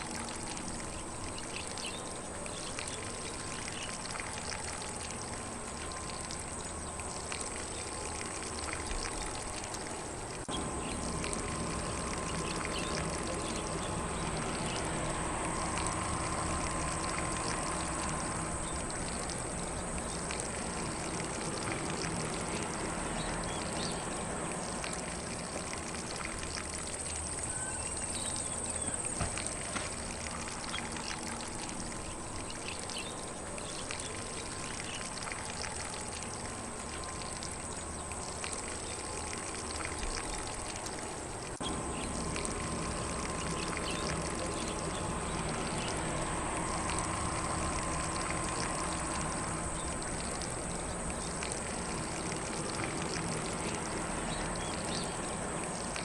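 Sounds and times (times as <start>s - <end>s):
faint birds chirping: 0.0s - 56.0s
lawn sprinkler spraying water: 0.0s - 56.0s.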